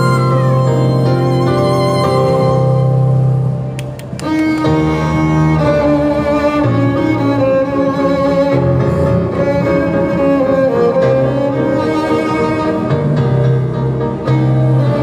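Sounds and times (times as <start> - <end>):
bass and strings accompaniment: 0.0 - 15.0
violin playing slow melody: 0.0 - 15.0.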